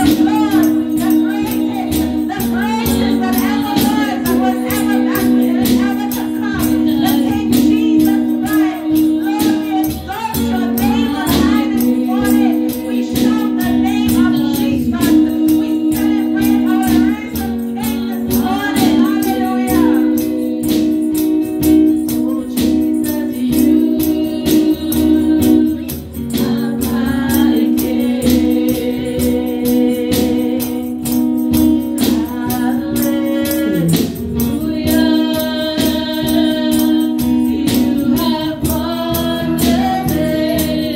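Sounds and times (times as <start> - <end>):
female backing singers: 0.0 - 40.9
woman singing into a microphone: 0.0 - 40.9.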